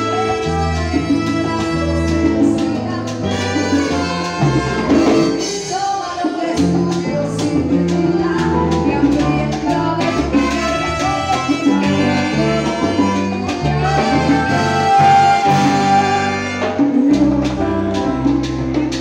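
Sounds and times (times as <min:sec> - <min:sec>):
salsa band playing: 0:00.0 - 0:19.0.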